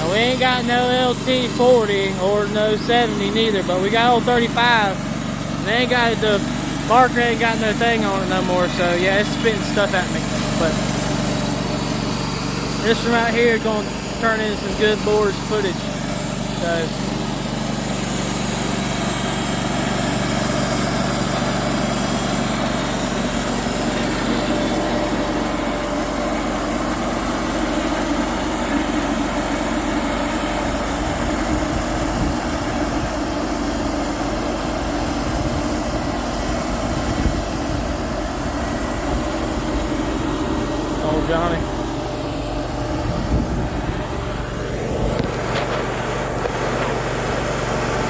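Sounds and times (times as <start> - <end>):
band sawmill cutting log: 0.0 - 48.0.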